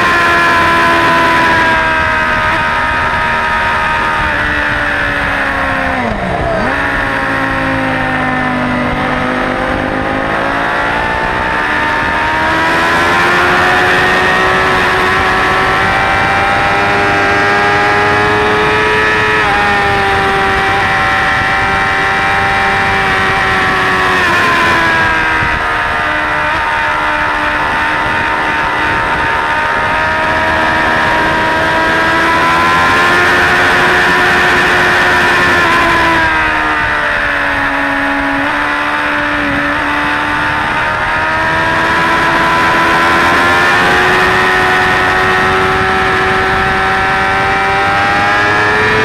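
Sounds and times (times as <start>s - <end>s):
motorcycle engine at high revs: 0.0s - 49.0s
wind noise: 0.0s - 49.0s.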